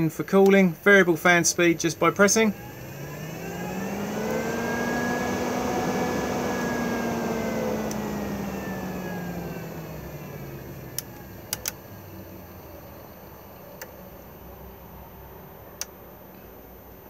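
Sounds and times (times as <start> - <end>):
roof vent fan running: 0.0 - 17.0.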